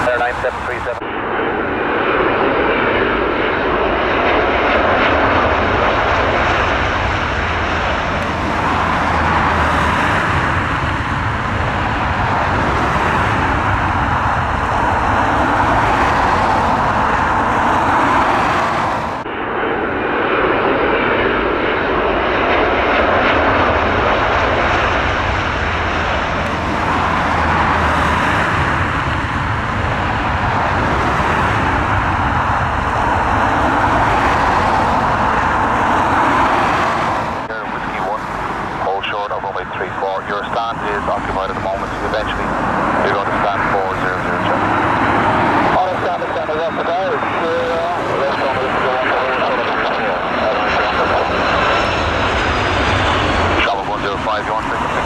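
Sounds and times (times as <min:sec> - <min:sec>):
jet airliner engines: 0:00.0 - 0:55.0.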